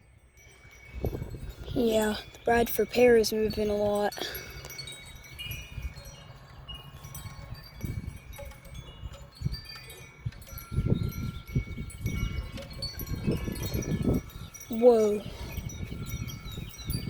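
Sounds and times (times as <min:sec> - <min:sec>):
wind chimes ringing: 0:00.0 - 0:17.0
wind rumbling on microphone: 0:00.0 - 0:17.0.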